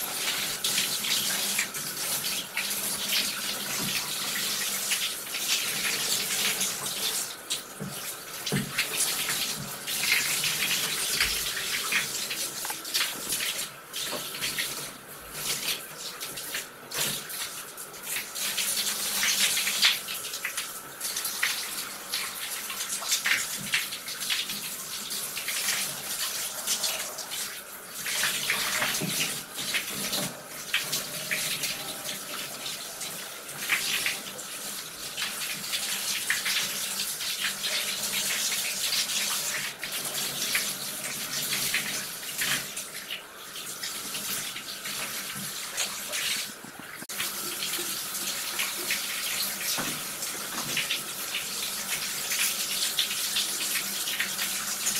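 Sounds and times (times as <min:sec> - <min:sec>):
shower water spraying into bathtub: 0:00.0 - 0:54.9.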